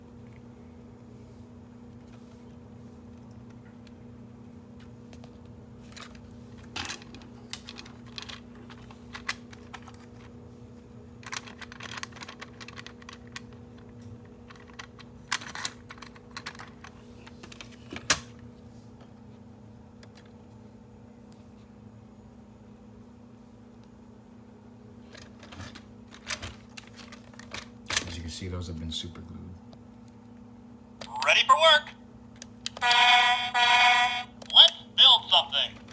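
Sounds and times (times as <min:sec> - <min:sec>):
faint hum: 0:00.0 - 0:35.9.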